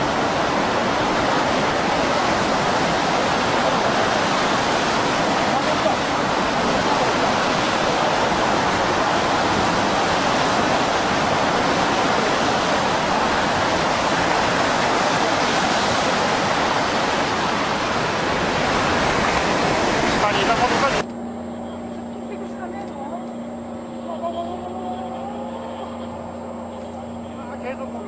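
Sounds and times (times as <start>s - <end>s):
turbulent seawater churning: 0.0s - 28.0s.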